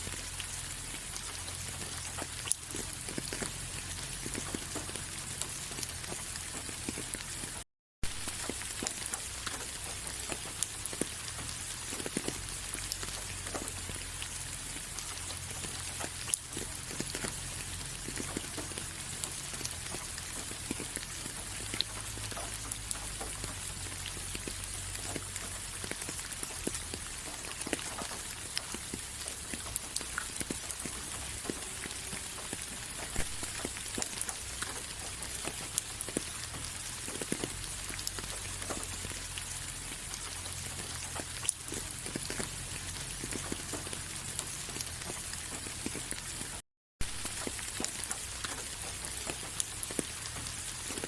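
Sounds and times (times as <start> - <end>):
raindrops pattering: 0.0 - 51.0
steady rain hiss: 0.0 - 51.0.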